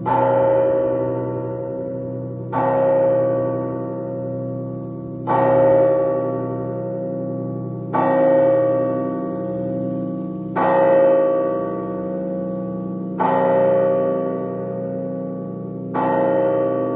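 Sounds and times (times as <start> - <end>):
church bell strikes: 0.0 - 16.9
deep hum of lower bells: 0.0 - 16.9.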